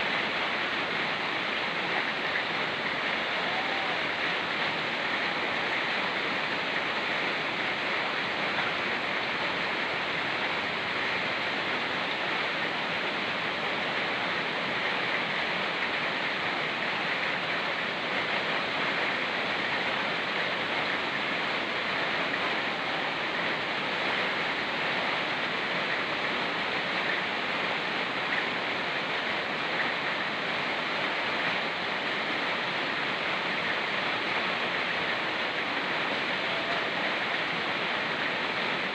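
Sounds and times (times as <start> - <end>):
rain falling in forest: 0.0 - 38.9
river rushing: 0.0 - 38.9.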